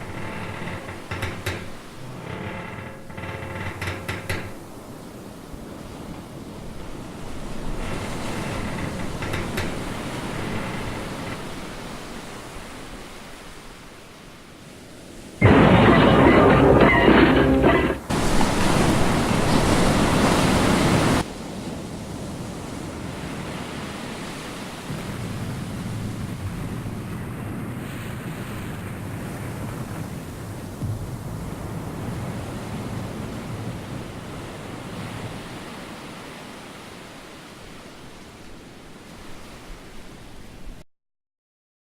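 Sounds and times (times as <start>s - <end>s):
rushing sea water: 0.0s - 40.8s
wind: 0.0s - 40.8s.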